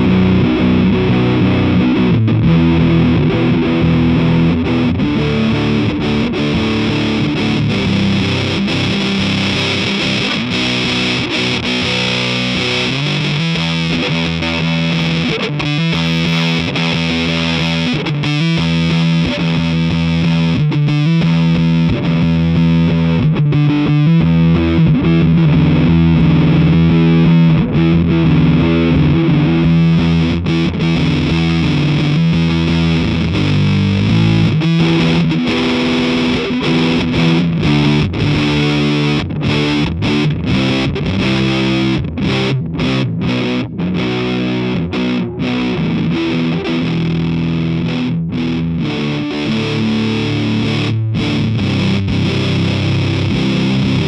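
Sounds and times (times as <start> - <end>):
fuzz-distorted electric guitar riffing: 0.0 - 54.0.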